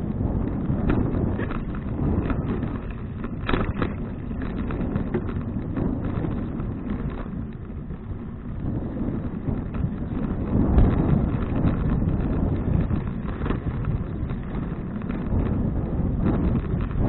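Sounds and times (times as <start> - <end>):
bicycle rattles and clicks: 0.0 - 17.0
wind rumbling on microphone: 0.0 - 17.0.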